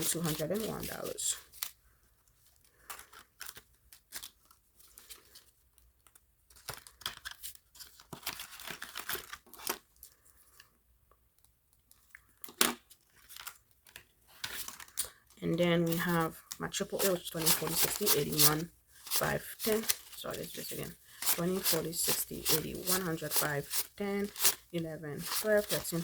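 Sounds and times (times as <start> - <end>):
paper rustling and crinkling: 0.0 - 10.7, 11.7 - 26.0.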